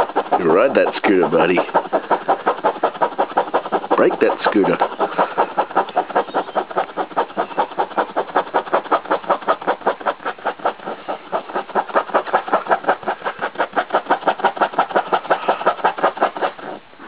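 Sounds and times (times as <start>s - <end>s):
dog panting hard: 0.0s - 17.0s.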